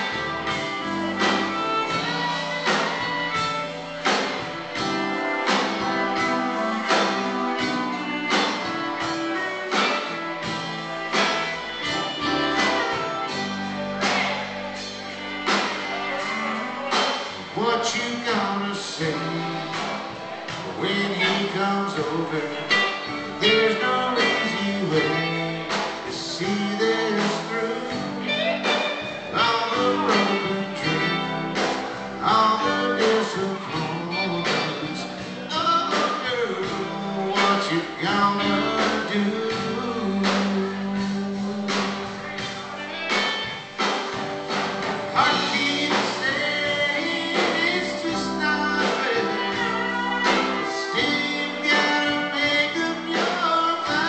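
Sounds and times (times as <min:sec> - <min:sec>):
person singing: 0:00.0 - 0:43.7, 0:44.9 - 0:54.0
drums: 0:00.0 - 0:54.0
electric guitars: 0:00.0 - 0:54.0
keyboard: 0:00.0 - 0:54.0.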